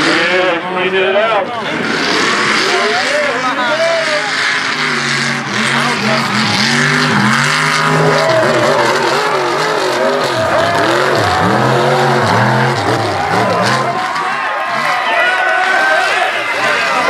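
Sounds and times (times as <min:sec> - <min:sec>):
truck engine revving hard: 0:01.6 - 0:17.0.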